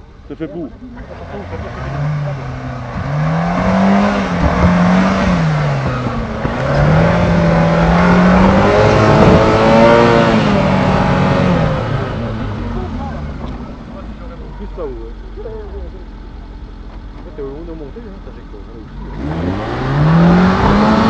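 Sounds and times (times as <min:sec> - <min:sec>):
engine revving under load: 0:00.0 - 0:21.0.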